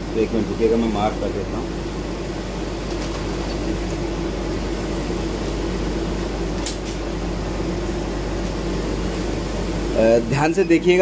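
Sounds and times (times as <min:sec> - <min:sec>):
machine fans and pumps humming: 0:00.0 - 0:11.0.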